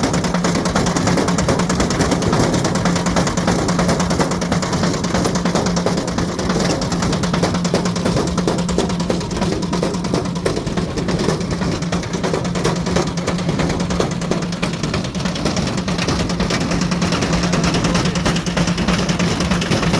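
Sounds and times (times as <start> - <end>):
washing machine motor hum: 0.0 - 19.9
brick knocking in washing machine: 0.1 - 19.9.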